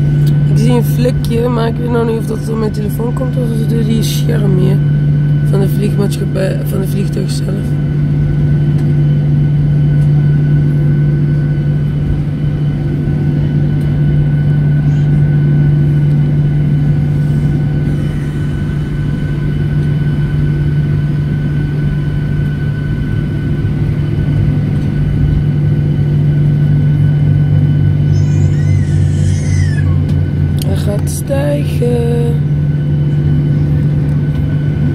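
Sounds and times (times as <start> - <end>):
faint engine whines: 0.0 - 34.9
jet engines droning: 0.0 - 34.9.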